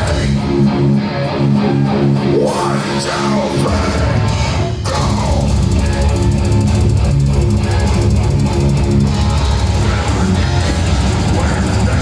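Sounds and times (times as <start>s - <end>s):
distorted electric guitars: 0.0s - 12.0s
pounding drum kit: 0.0s - 12.0s.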